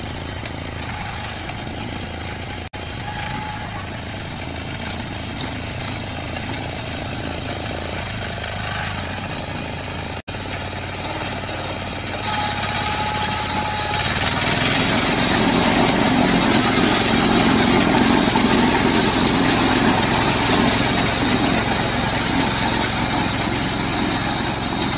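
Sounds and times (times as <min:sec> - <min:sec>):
harvesting machine engine running: 0:00.0 - 0:24.9.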